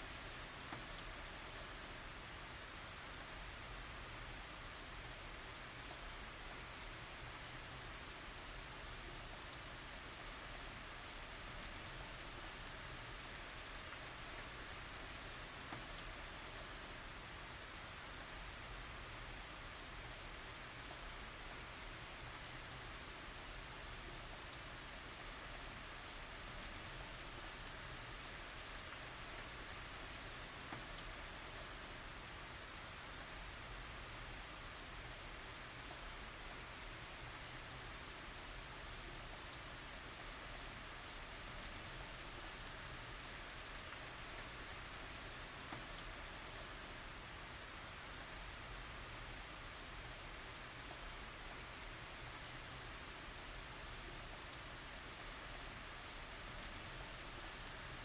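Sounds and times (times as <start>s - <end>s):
raindrop ticks: 0.0s - 2.3s, 2.9s - 17.3s, 17.9s - 32.3s, 33.0s - 47.2s, 48.0s - 58.0s
light rain hissing: 0.0s - 58.0s.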